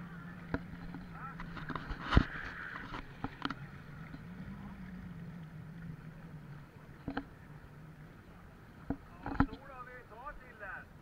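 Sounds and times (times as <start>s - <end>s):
motorboat engine humming: 0.0s - 11.0s
water washing along hull: 0.0s - 11.0s.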